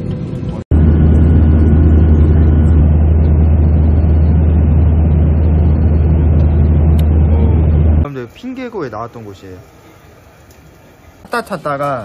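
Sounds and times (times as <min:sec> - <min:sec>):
vehicle rumbling: 0:00.0 - 0:11.2.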